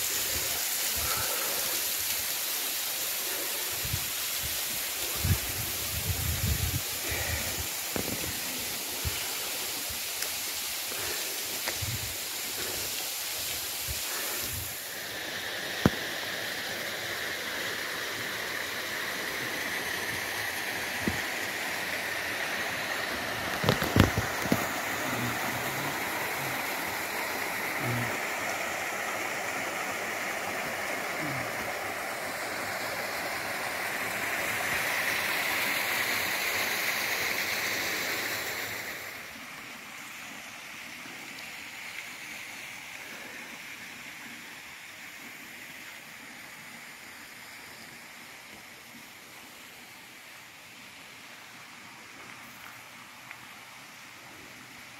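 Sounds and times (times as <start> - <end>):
stream running water: 0.0 - 54.9.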